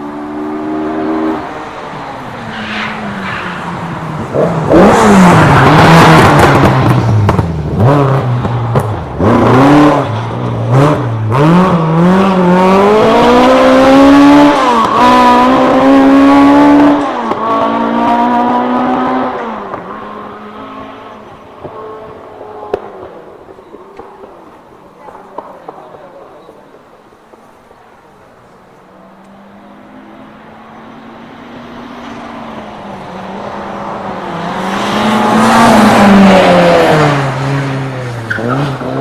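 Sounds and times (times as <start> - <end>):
rally car engine revving: 0.0 - 25.5, 26.4 - 39.0.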